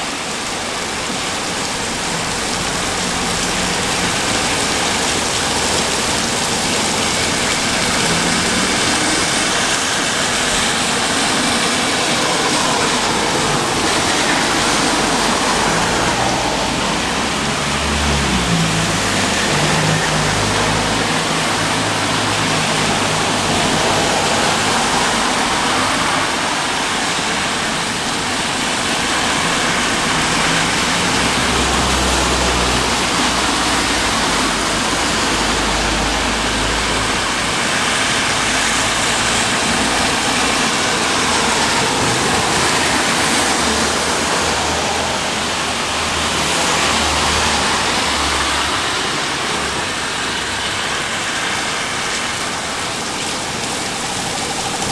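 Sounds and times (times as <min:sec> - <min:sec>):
rain pattering on a balcony: 0:00.0 - 0:54.9.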